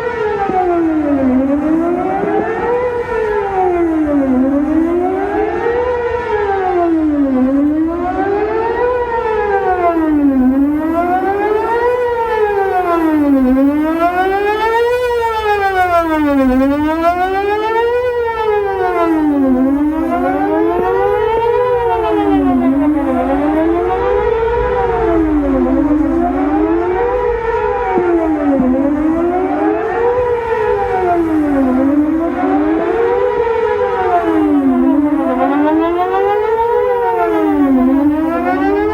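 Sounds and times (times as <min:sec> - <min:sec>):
warning siren rising and falling: 0:00.0 - 0:38.9.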